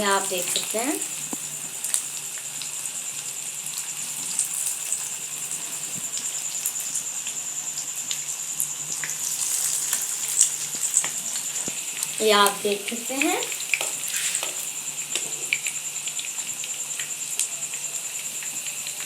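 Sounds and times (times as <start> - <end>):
patties sizzling in hot fat: 0.0 - 19.0.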